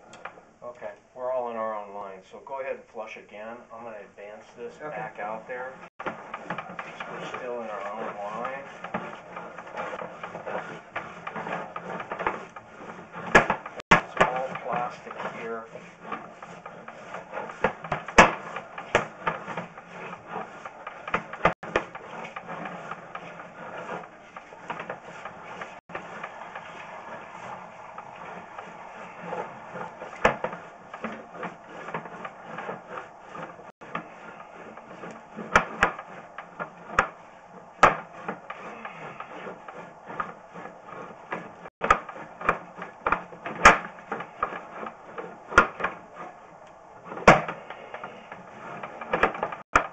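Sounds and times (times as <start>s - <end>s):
cable sliding and rubbing: 3.7s - 49.9s.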